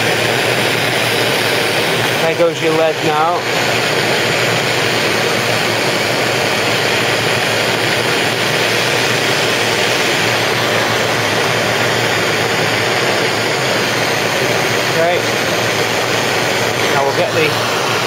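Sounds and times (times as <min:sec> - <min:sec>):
blowtorch flame hissing: 0:00.0 - 0:18.0.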